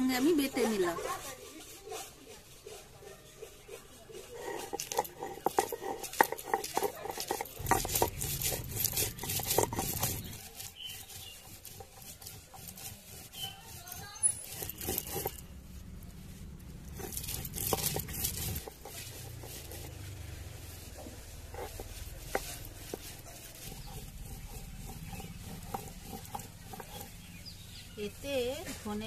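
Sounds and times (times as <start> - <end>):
stone grinding on stone: 0.0 - 29.0.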